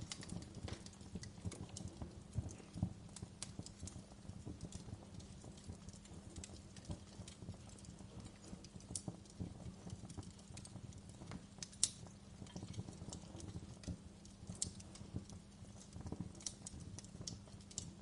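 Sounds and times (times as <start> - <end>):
fire pops and snaps: 0.0 - 18.0
wood fire crackling: 0.0 - 18.0.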